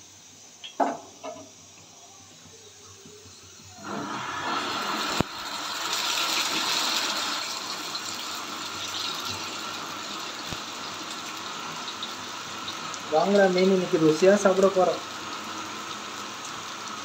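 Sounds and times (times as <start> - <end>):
fish sizzling in hot oil: 0.2 - 17.0.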